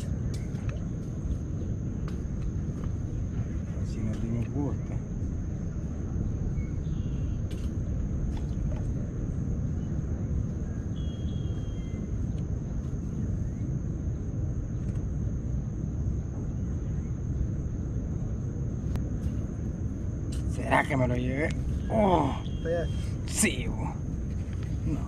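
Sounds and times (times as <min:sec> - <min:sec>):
low rumble: 0:00.0 - 0:25.0
thin high whine: 0:00.0 - 0:25.0.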